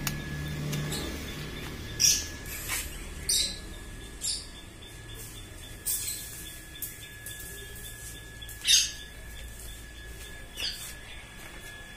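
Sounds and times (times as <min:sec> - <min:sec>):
faint high whine: 0:00.0 - 0:11.9
low hum: 0:00.0 - 0:11.9
small birds chirping: 0:00.0 - 0:11.9.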